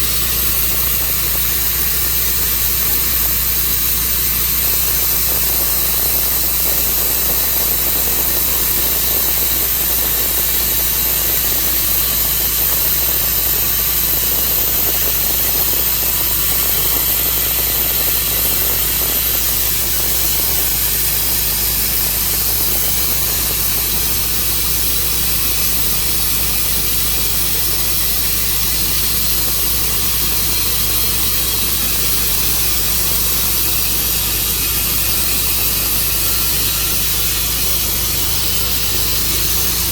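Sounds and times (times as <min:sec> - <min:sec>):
engine-driven saw cutting wood: 0:00.0 - 0:39.9.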